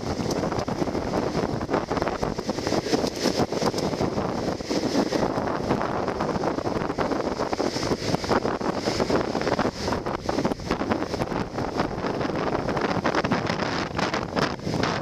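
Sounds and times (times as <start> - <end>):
skateboard wheels rolling on asphalt: 0.0 - 15.0
wind buffeting microphone: 0.0 - 15.0.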